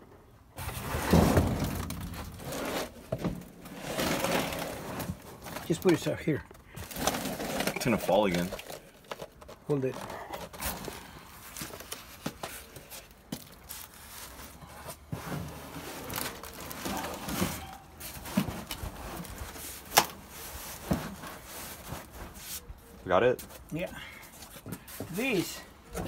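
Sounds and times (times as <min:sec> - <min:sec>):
objects rustling and scraping: 0:00.5 - 0:26.0.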